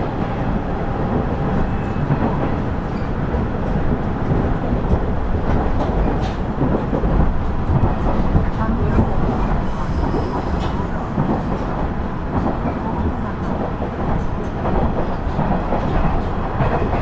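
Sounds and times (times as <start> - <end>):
railcar rumbling on rails: 0.0 - 17.0.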